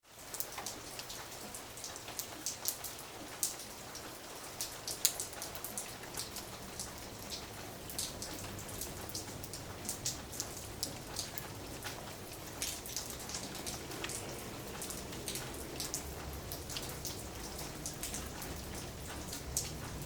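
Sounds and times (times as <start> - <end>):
light rain falling: 0.0 - 20.0
raindrops ticking on a surface: 0.0 - 20.0.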